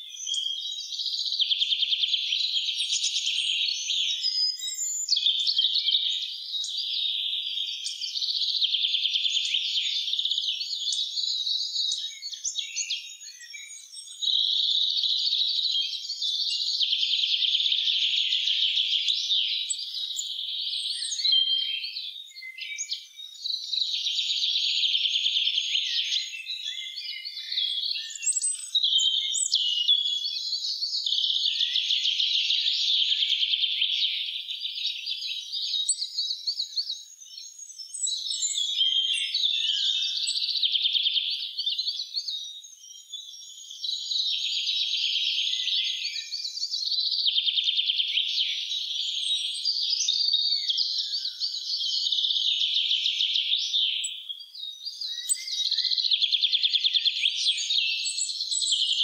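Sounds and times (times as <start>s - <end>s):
songbirds twittering: 0.0s - 59.0s.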